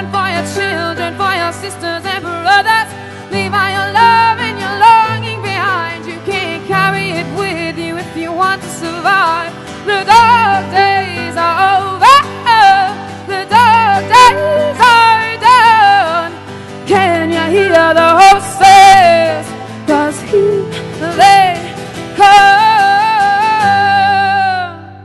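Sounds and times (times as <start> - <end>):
acoustic guitar: 0.0 - 25.0
woman singing: 0.0 - 25.0.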